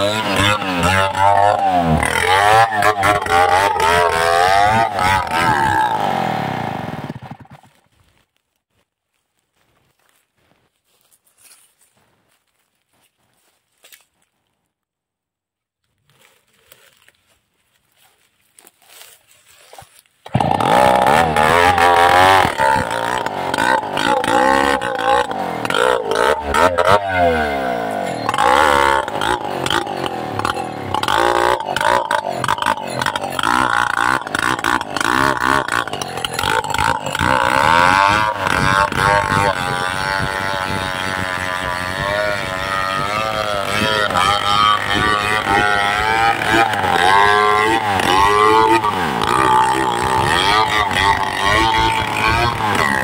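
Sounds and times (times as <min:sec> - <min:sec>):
chainsaw cutting wood: 0:00.0 - 0:08.2, 0:18.0 - 0:53.0.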